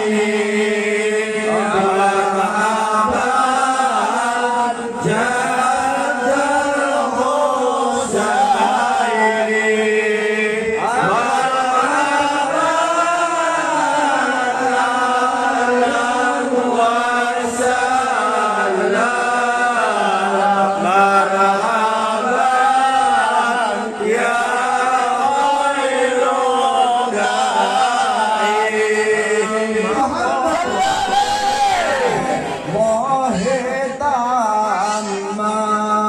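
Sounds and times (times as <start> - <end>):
voices chanting: 0.0 - 33.5.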